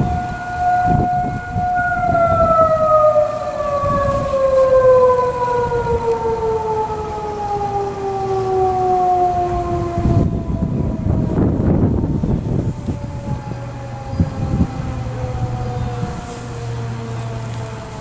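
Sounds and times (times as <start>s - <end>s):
warning siren winding down: 0.0s - 18.0s.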